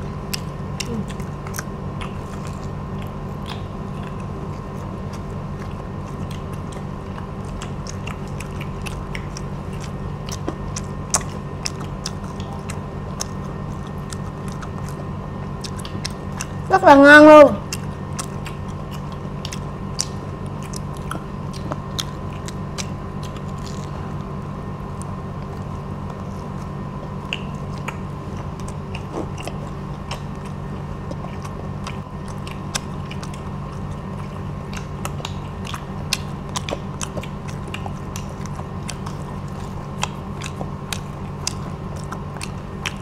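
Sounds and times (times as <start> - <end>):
background hum: 0.0 - 43.0
crunching fried shrimp: 0.0 - 43.0.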